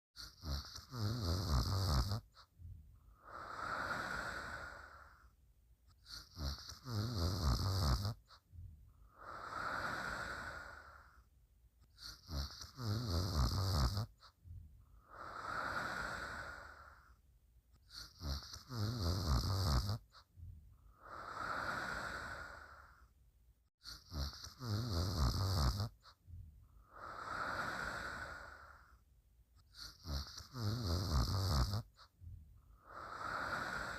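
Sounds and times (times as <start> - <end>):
person snoring: 0.2 - 2.5, 3.1 - 5.3, 6.0 - 8.4, 9.0 - 14.4, 15.0 - 17.2, 17.8 - 23.1, 23.8 - 26.2, 26.8 - 29.0, 29.6 - 32.1, 32.7 - 33.9.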